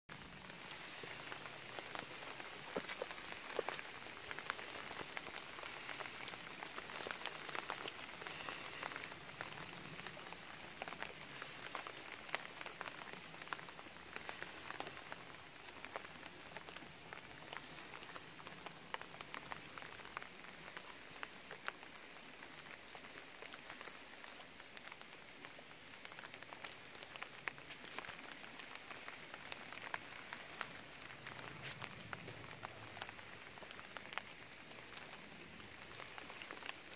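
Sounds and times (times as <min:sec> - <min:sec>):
light steady rain: 0:00.0 - 0:36.9.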